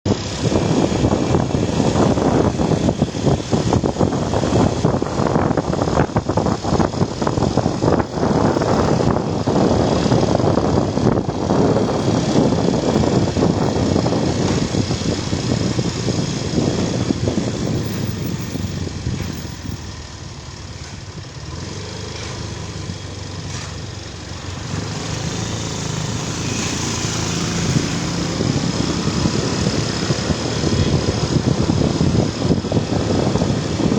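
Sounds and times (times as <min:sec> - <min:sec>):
road noise: 0:00.1 - 0:33.9
vehicle engine running: 0:00.1 - 0:33.9.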